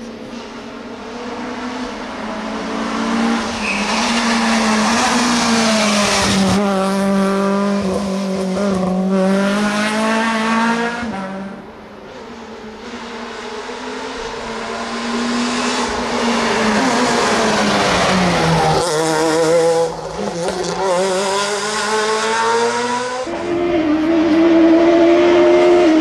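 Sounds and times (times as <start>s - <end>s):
rally car engine passing at speed: 0.4s - 26.0s.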